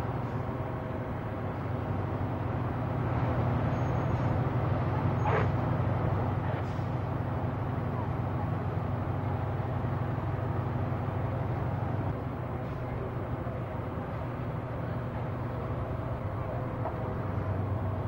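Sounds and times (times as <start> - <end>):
fire engine engine humming: 0.0 - 18.0.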